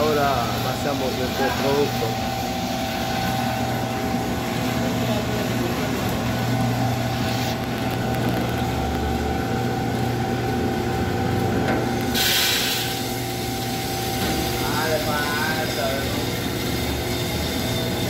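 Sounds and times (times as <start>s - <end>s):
roaster motors and fans running: 0.0s - 18.0s.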